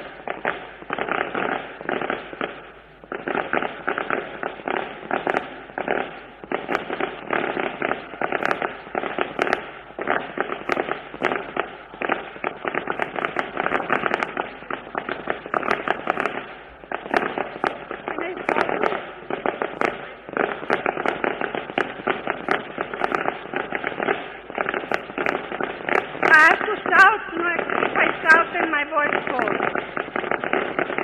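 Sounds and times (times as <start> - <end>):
firecrackers crackling: 0.0 - 31.0.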